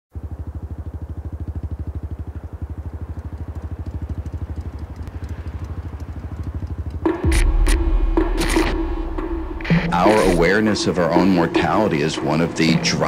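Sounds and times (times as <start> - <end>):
motorcycle engine idling: 0.1 - 13.0.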